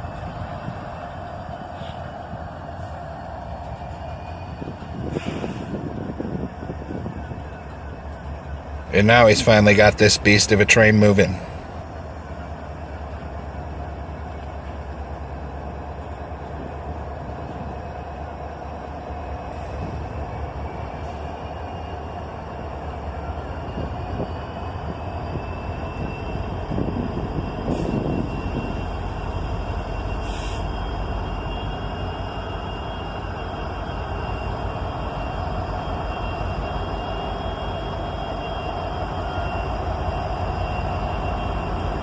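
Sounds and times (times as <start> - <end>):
diesel locomotive engine rumble: 0.0 - 42.0.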